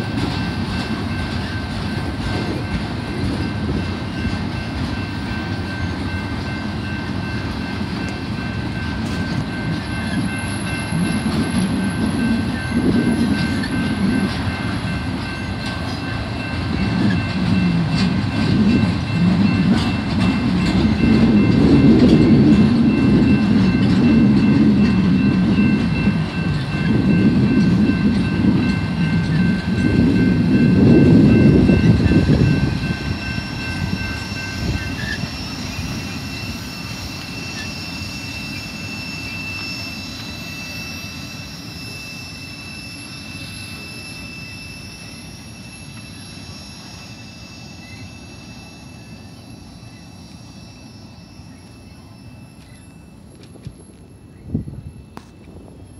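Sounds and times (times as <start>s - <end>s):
freight train rumbling past: 0.0s - 55.9s
high wheel squeal: 0.0s - 55.9s.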